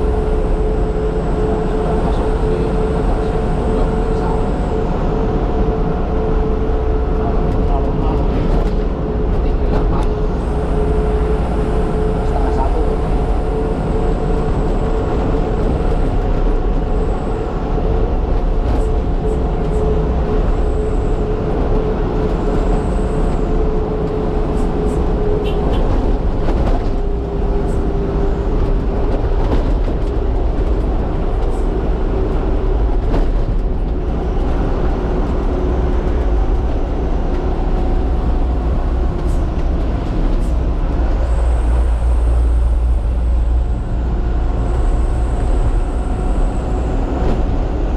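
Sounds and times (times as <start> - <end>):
low road rumble: 0.0 - 47.9
truck engine drone: 0.0 - 47.9.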